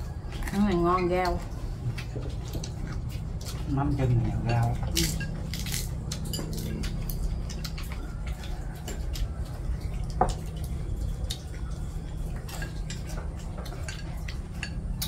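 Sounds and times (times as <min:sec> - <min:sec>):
steady low hum: 0:00.0 - 0:15.0
utensils clinking on dishes: 0:00.0 - 0:15.0.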